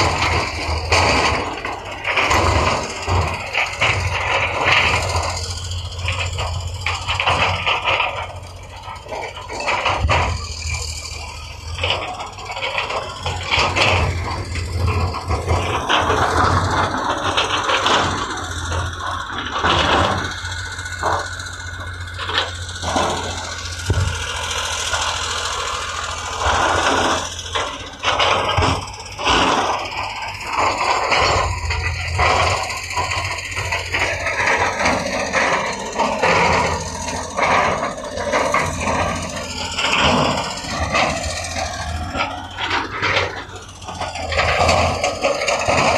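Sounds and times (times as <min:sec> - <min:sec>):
diesel engine running: 0:00.0 - 0:45.9
machine clanking and scraping: 0:00.0 - 0:45.9.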